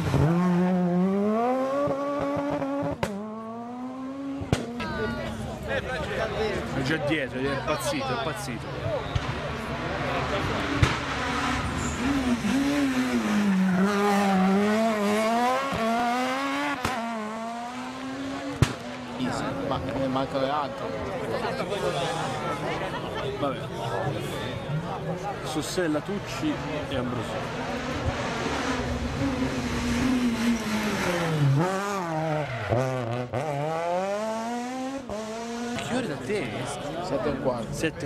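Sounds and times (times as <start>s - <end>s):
rally car engine passing: 0.0s - 6.8s, 8.8s - 23.1s, 23.9s - 37.1s.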